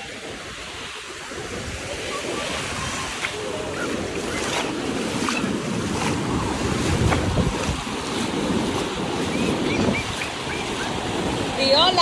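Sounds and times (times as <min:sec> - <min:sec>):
ocean surf breaking: 0:00.0 - 0:12.0
wind buffeting microphone: 0:01.3 - 0:12.0.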